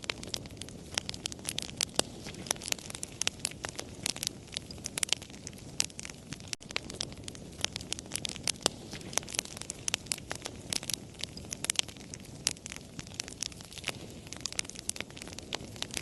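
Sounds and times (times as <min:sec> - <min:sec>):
hiss of burning: 0:00.0 - 0:16.0
wood fire crackling: 0:00.0 - 0:16.0.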